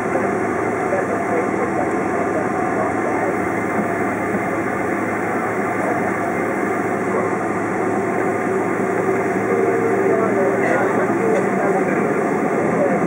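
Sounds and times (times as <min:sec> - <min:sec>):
jet engines in aircraft cabin: 0:00.0 - 0:13.0.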